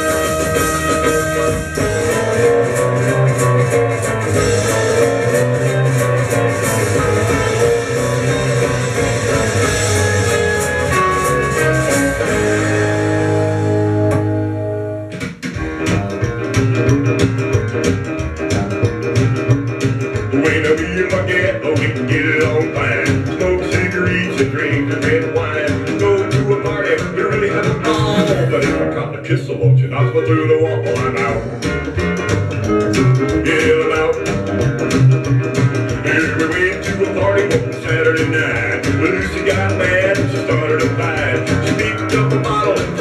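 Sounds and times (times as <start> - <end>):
rock and roll music: 0.0 - 43.0.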